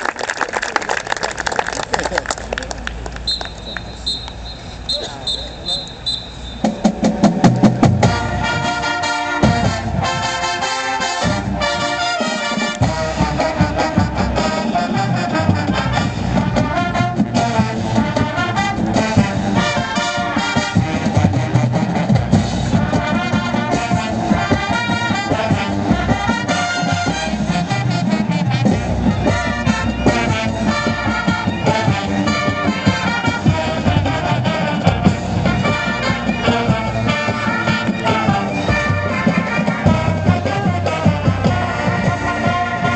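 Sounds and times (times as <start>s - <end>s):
marching band playing: 3.2s - 42.9s.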